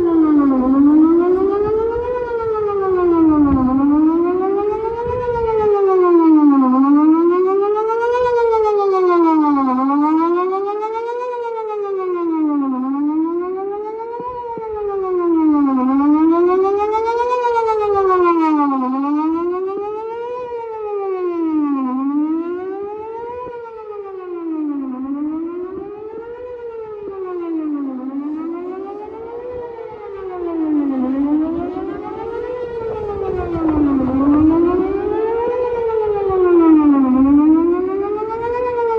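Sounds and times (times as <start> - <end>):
outdoor warning siren wailing: 0.0 - 38.9.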